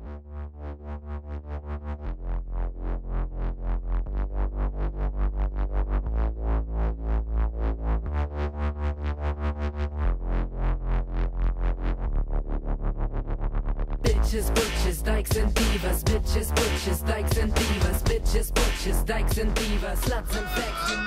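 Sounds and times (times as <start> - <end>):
bass line: 0.0 - 21.0
pulsing synthesizer beat: 2.0 - 21.0.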